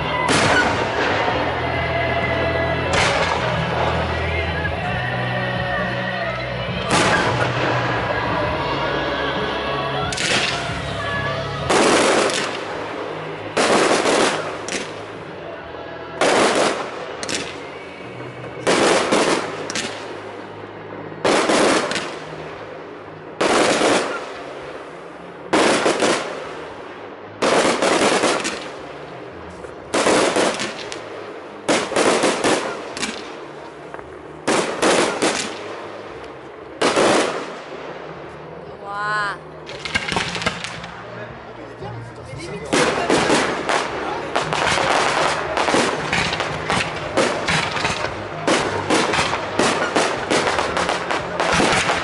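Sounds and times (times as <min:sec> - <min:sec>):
fireworks bursting: 0:00.0 - 0:04.7, 0:06.7 - 0:38.6, 0:39.4 - 0:52.0.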